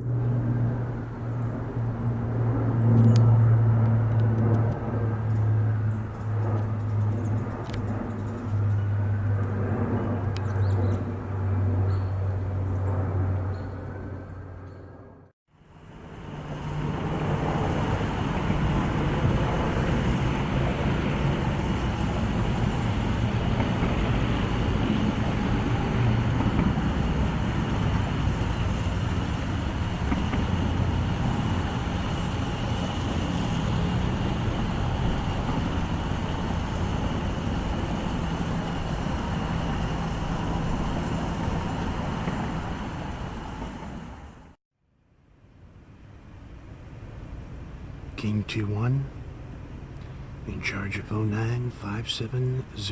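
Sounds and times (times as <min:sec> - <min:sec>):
aircraft engines droning: 0:00.0 - 0:44.6, 0:45.8 - 0:52.9.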